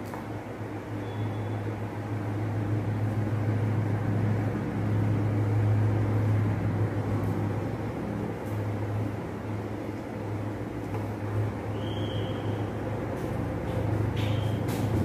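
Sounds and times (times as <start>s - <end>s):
machine hum with airy rushing: 0.0s - 15.0s.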